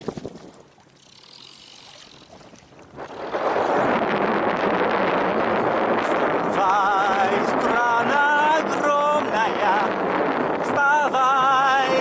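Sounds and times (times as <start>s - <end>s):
strong wind rushing: 2.4s - 12.0s.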